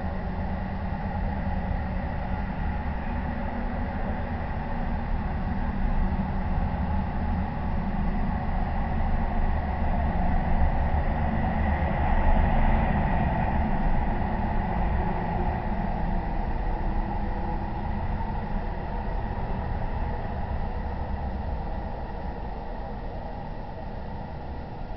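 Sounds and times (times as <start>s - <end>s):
faint steady tones: 0.0s - 24.9s
outdoor night rumble and hiss: 0.0s - 24.9s.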